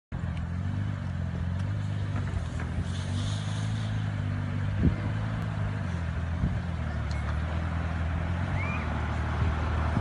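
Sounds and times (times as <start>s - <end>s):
car engine running: 0.1s - 10.0s.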